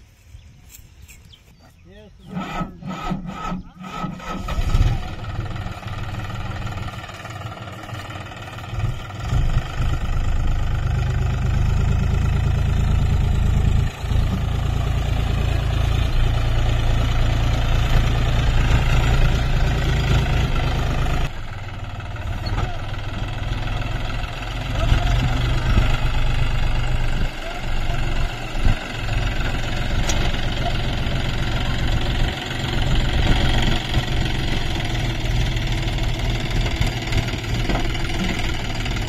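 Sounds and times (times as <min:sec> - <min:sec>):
tractor diesel engine: 0:02.0 - 0:39.0.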